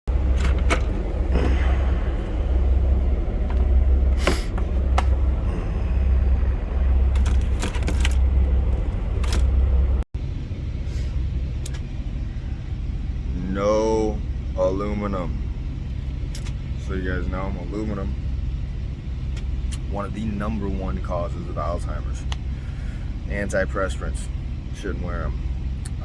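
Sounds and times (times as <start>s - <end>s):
truck engine idling: 0.1s - 26.0s.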